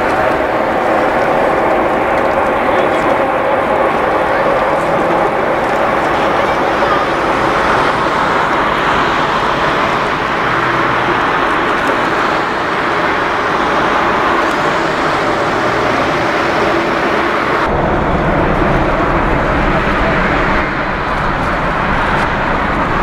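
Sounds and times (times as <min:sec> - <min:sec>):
deep rumble: 0:00.0 - 0:23.0
loud jet engine noise: 0:00.0 - 0:23.0.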